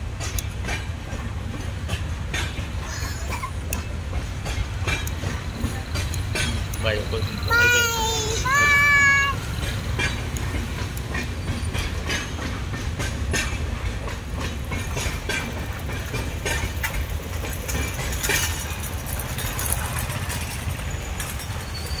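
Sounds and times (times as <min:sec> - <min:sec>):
train coaches rumbling past: 0:00.0 - 0:22.0
wheels clattering over rail joints: 0:00.0 - 0:22.0.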